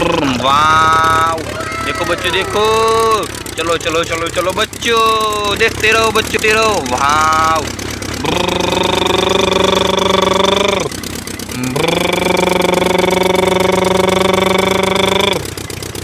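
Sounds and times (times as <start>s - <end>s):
man imitating engine: 0.0s - 15.6s.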